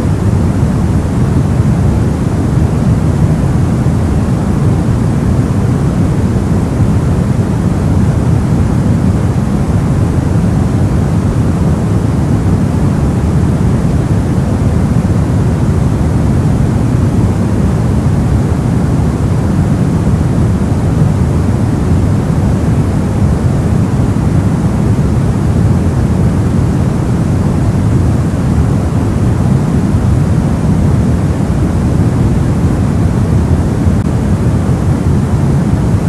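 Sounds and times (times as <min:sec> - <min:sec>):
deep white noise: 0:00.0 - 0:36.0.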